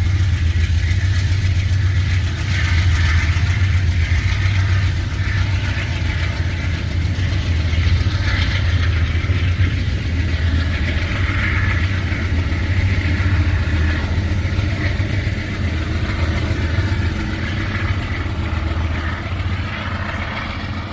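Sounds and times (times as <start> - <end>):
diesel locomotive engine hum: 0.0 - 20.9
rail noise: 0.0 - 20.9.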